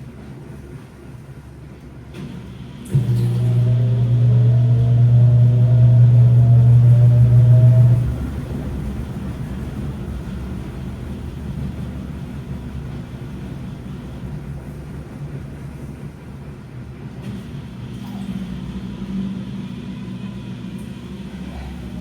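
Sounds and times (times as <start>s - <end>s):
washing machine rumbling: 0.1s - 22.0s
washing machine motor humming: 2.4s - 22.0s.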